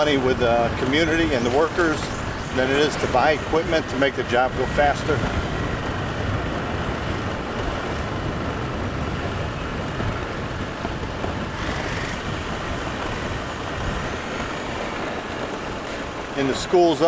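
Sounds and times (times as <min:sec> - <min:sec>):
bike road rumble: 0:00.0 - 0:17.0
wind: 0:00.0 - 0:17.0.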